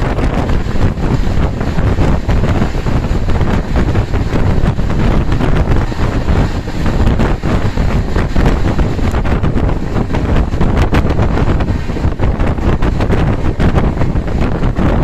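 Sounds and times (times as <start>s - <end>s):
train rumbling at speed: 0.0s - 15.0s
wind buffeting microphone: 0.0s - 15.0s.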